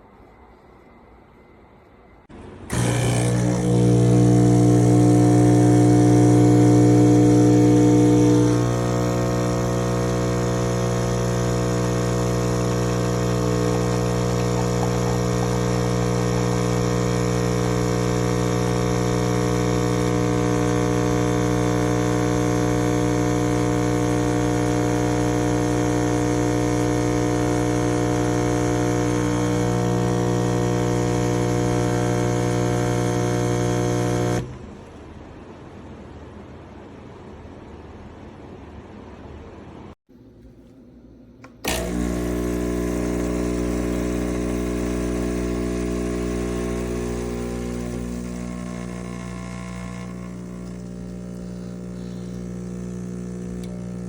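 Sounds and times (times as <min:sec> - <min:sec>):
espresso machine pump buzzing: 0:02.7 - 0:34.7, 0:41.4 - 0:54.0.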